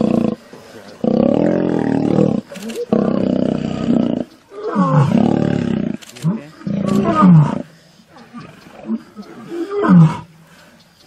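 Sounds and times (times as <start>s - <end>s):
lions roaring and snarling: 0.0s - 10.3s.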